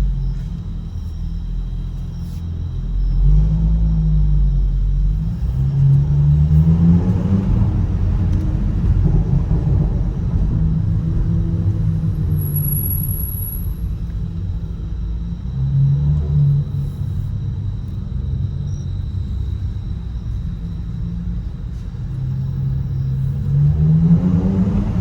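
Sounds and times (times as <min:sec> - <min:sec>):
car engine revving and crackling: 0:00.0 - 0:25.0.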